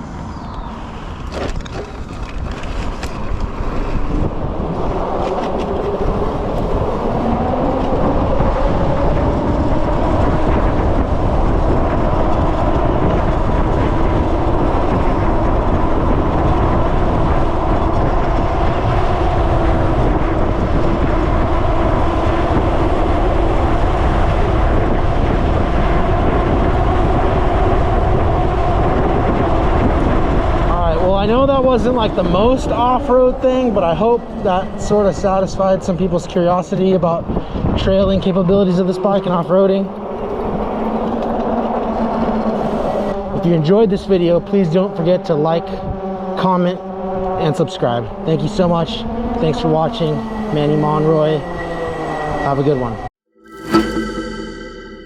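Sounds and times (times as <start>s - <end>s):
wind noise: 0.0s - 44.2s.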